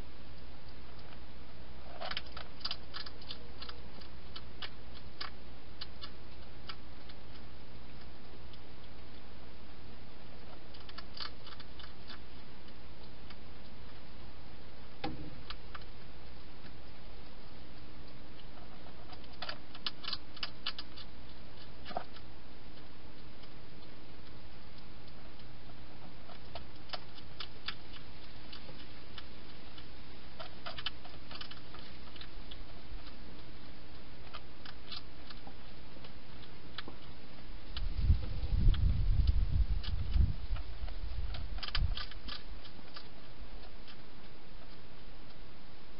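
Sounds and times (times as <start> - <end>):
low hiss and hum: 0.0 - 45.9
hedgehog chewing clicks: 1.8 - 9.3, 10.4 - 14.1, 15.0 - 45.5.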